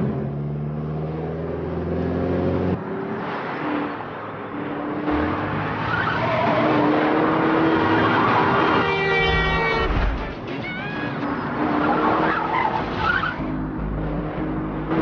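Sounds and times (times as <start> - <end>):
car engines running hard: 0.0 - 15.0
tyres skidding and squealing: 2.9 - 15.0.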